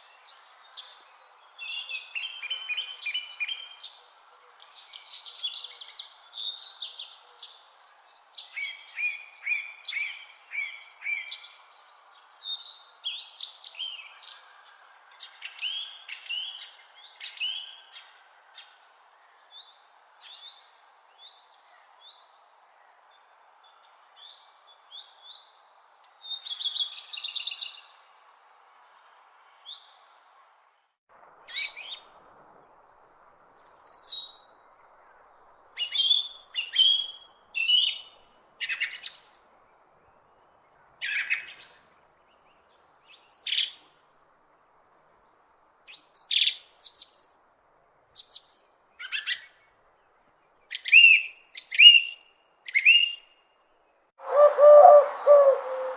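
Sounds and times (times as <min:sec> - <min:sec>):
wild birds singing: 0:00.0 - 0:25.6, 0:31.3 - 0:55.9.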